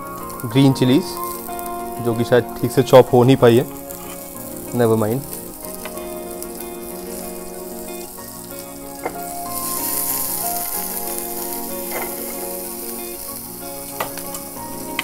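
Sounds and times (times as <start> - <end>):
chillies sizzling in oil: 0.0 - 15.0.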